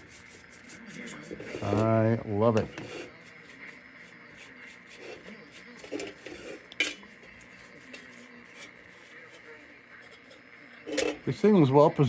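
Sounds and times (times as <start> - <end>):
faint handling noises: 0.5 - 11.6.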